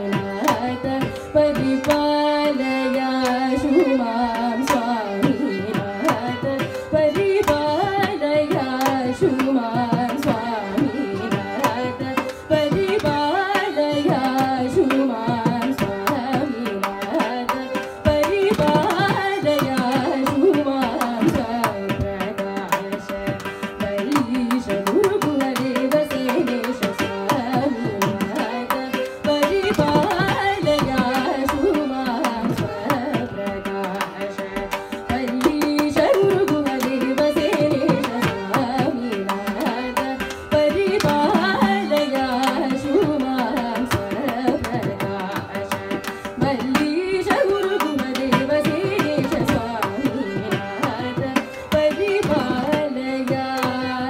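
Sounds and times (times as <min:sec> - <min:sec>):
violin melody: 0:00.0 - 0:54.0
woman singing: 0:00.0 - 0:54.0.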